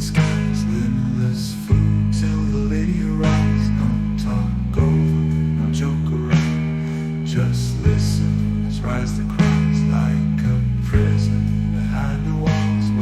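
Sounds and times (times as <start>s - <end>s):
guitar-led instrumental music: 0.0s - 13.0s.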